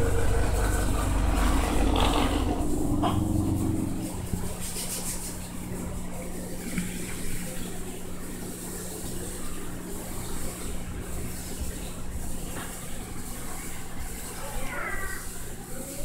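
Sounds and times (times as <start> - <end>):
pump hum: 0.0 - 16.0
water splashing: 0.0 - 16.0.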